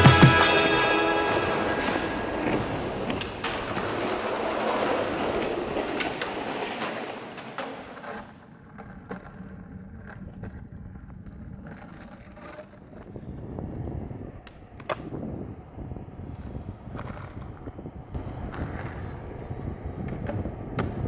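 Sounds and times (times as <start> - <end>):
skateboard wheels rolling on pavement: 0.0 - 21.0.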